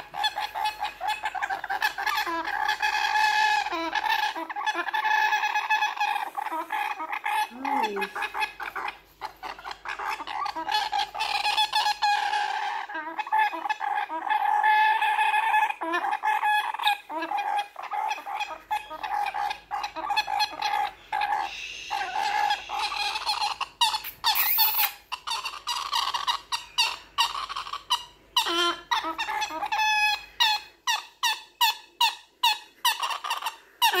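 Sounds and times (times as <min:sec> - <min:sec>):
cockatoo chick raspy calls: 0:00.0 - 0:34.0.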